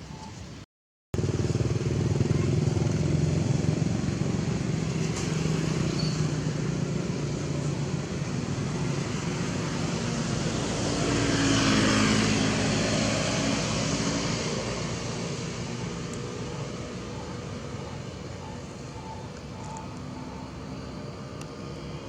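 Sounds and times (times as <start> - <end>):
vehicle engine running: 1.2 - 22.0.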